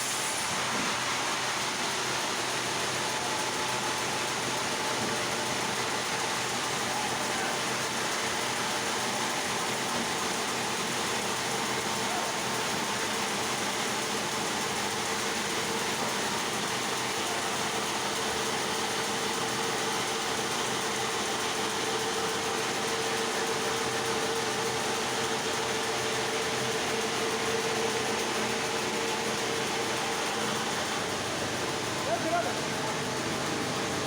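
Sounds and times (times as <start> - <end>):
sawmill machinery hum: 0.0 - 34.0.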